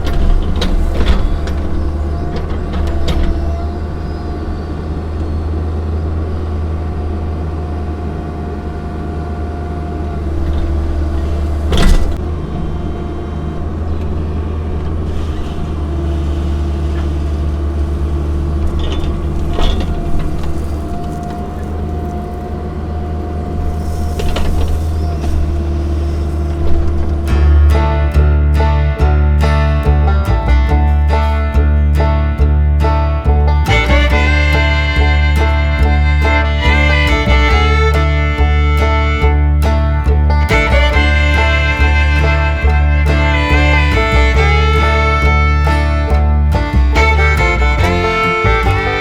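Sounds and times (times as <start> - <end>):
hydraulic whine: 0.0 - 28.8, 33.6 - 49.0
excavator diesel engine running: 0.0 - 49.0.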